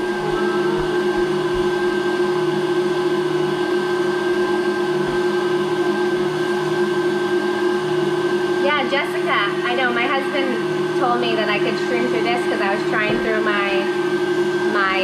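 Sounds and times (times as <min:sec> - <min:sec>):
stand mixer motor whine: 0:00.0 - 0:15.0.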